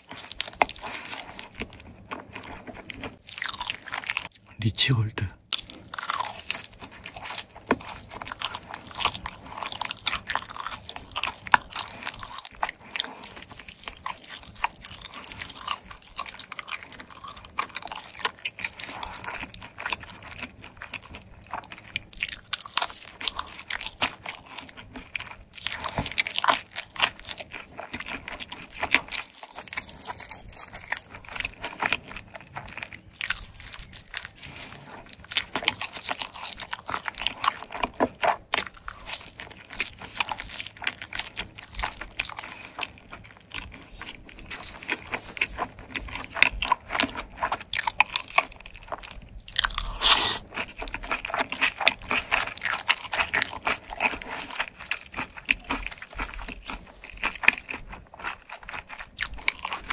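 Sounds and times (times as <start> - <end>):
chewing crisp pizza crust: 0.0 - 59.9.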